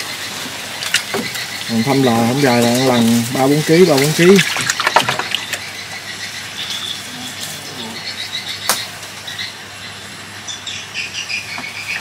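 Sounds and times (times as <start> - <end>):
insects chirping: 0.0 - 12.0
outdoor hiss: 0.0 - 12.0.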